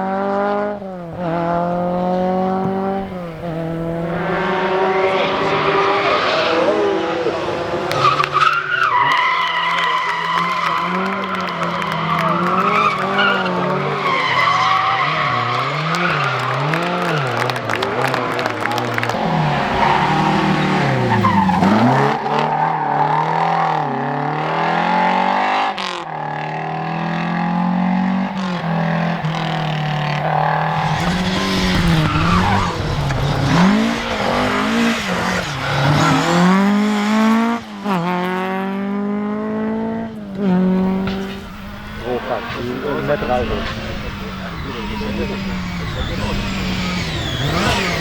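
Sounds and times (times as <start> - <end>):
tyres skidding: 0.0 - 24.0, 27.1 - 48.0
rally car engine revving: 0.0 - 48.0.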